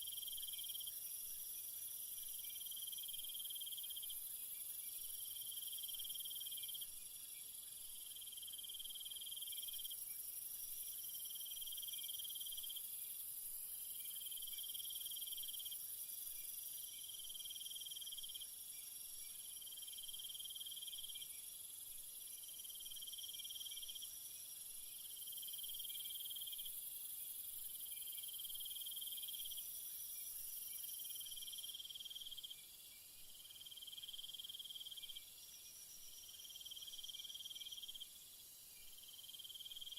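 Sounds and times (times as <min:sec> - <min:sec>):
lower insect trill pulses: 0:00.0 - 0:39.9.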